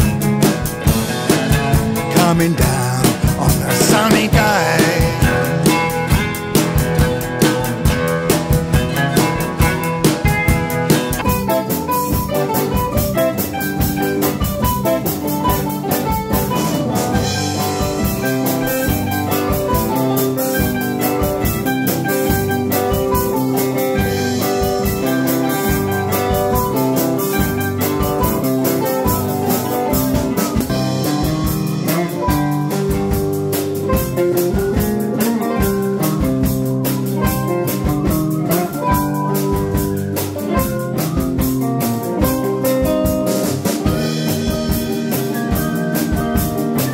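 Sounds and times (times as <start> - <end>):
drum kit beat: 0.0 - 46.9
guitars: 0.0 - 46.9.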